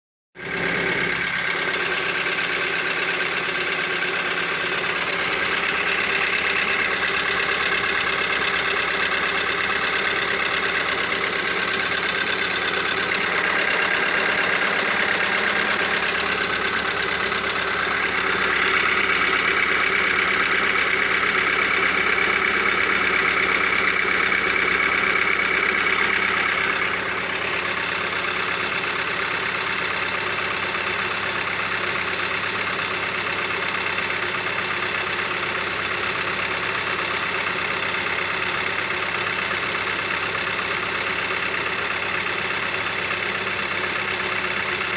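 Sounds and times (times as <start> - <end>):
car engine idling: 0.4 - 44.9.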